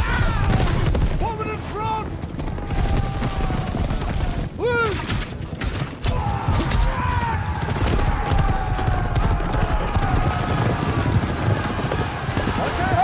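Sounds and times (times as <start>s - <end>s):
horses galloping: 0.0s - 4.6s, 6.4s - 13.0s.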